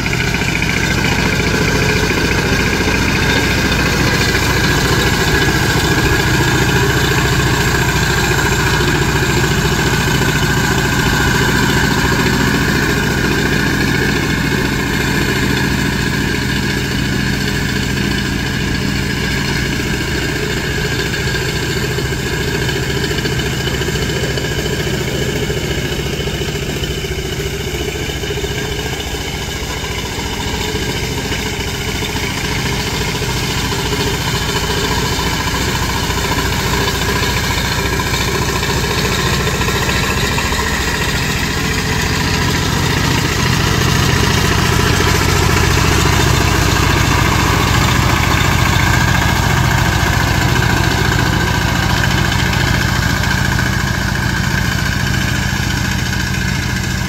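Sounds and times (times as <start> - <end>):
tiller diesel engine running: 0.0 - 57.0.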